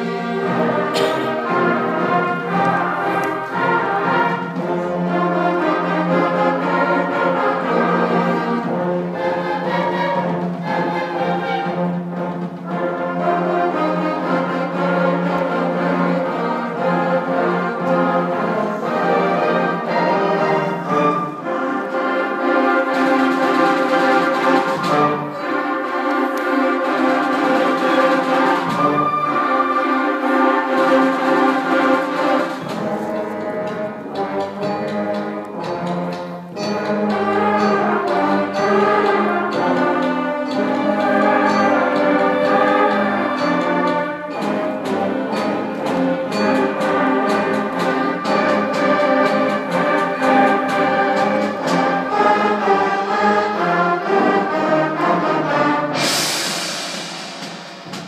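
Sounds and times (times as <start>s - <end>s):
concert band playing: 0.0s - 58.0s.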